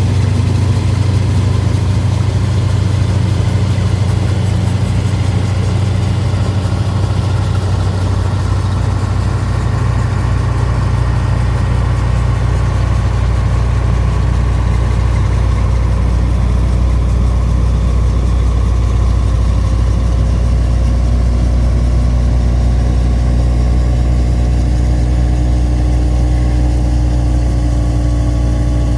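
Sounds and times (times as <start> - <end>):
large diesel engine humming: 0.0 - 28.9.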